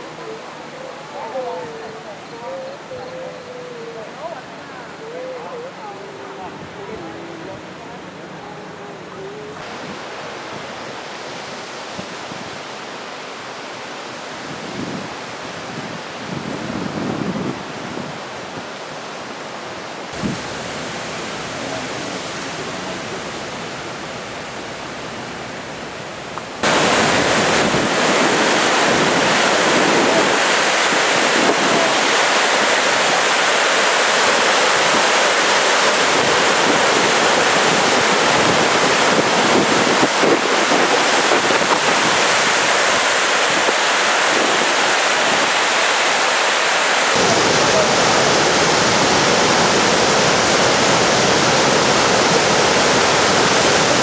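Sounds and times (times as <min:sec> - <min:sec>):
wind on microphone: 0:00.0 - 0:12.8, 0:14.2 - 0:19.1, 0:20.1 - 0:24.6, 0:26.6 - 0:54.0
fast-running river rushing: 0:00.0 - 0:54.0.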